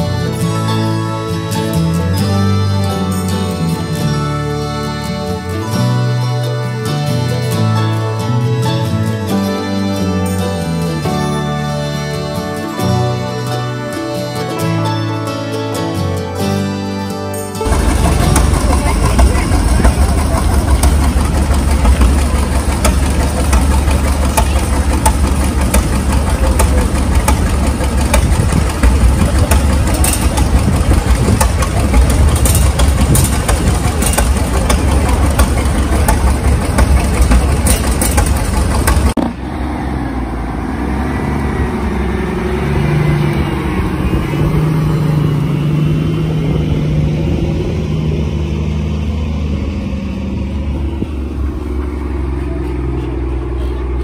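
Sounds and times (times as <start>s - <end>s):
engine idling: 0.0s - 54.0s
truck engine running loud with crackles: 0.0s - 54.0s.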